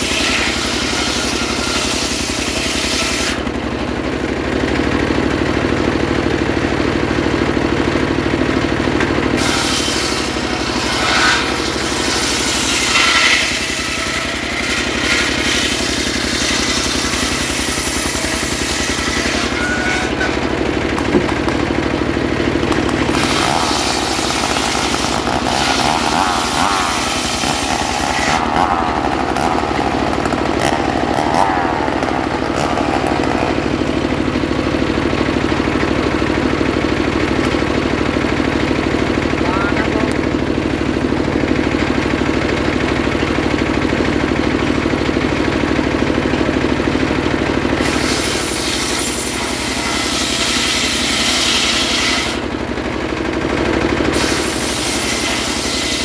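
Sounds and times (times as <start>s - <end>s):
circular saw cutting wood: 0.0s - 6.7s, 8.4s - 56.0s
engine running steadily: 0.0s - 56.0s.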